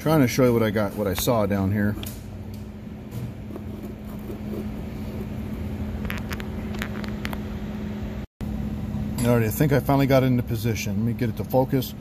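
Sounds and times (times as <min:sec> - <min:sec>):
vehicle low hum: 0:00.0 - 0:12.0.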